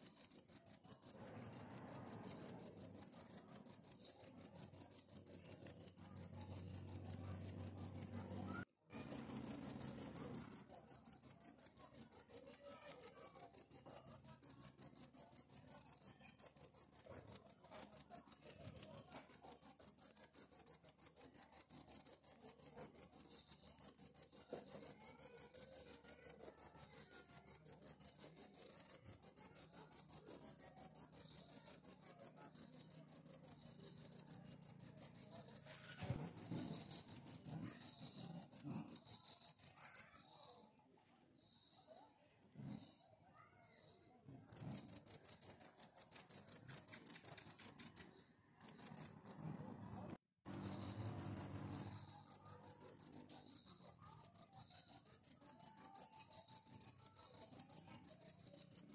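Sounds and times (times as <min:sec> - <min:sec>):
crickets chirping: 0:00.1 - 0:12.3, 0:13.3 - 0:40.2, 0:50.5 - 0:58.9.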